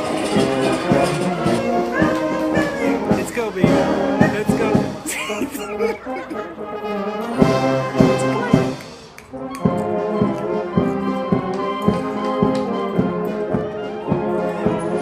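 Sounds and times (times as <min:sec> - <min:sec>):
music with brass and beat: 0:00.0 - 0:15.0.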